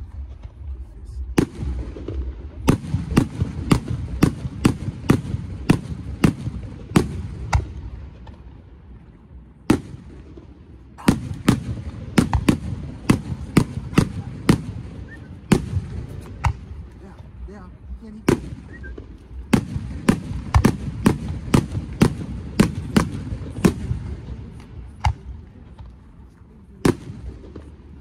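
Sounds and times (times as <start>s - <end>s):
fireworks bangs: 0.0s - 8.6s, 9.7s - 26.2s.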